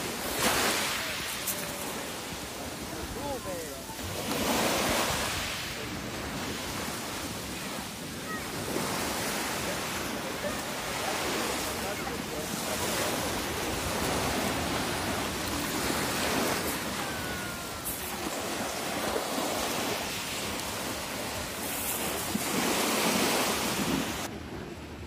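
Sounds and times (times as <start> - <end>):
surf washing onto beach: 0.0 - 25.0.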